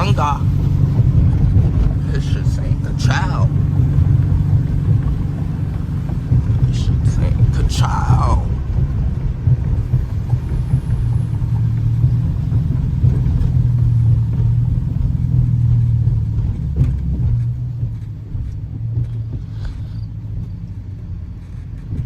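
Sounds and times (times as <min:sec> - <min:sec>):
car exhaust drone: 0:00.0 - 0:22.0.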